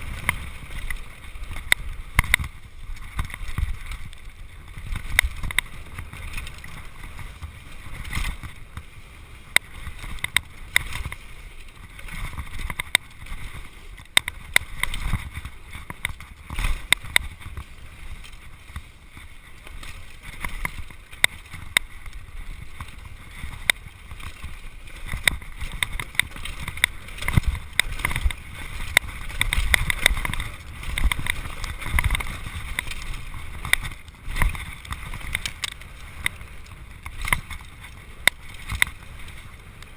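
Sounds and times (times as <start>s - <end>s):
mountain bike rattling: 0.0s - 39.9s
tyre and wind noise: 0.0s - 39.9s.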